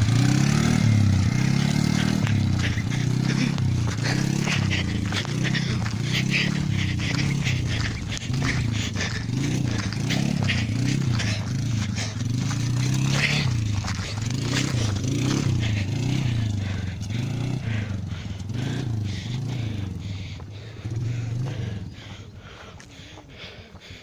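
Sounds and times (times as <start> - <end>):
quad bike engine revving: 0.0 - 22.8
gravel crunching under tyres: 0.0 - 24.0.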